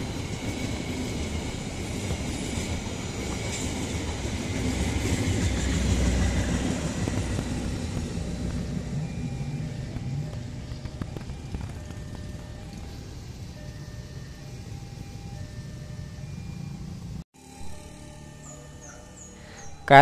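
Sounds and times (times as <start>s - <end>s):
train wheels rumbling past: 0.0s - 17.2s.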